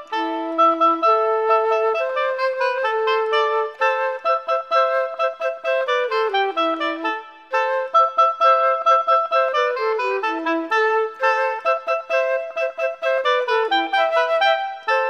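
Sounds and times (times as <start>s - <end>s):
wind instrument melody: 0.0s - 15.0s.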